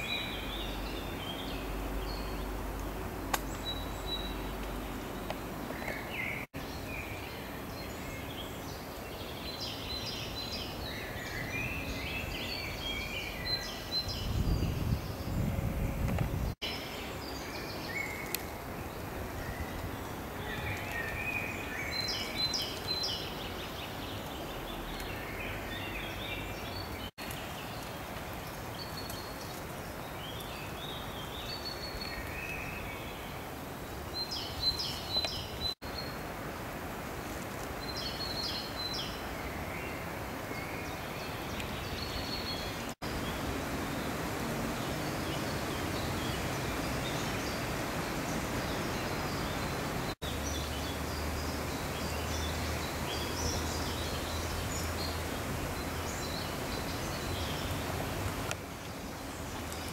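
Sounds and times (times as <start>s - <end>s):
songbirds chirping and warbling: 0.0s - 59.9s
steady outdoor hiss: 0.0s - 59.9s.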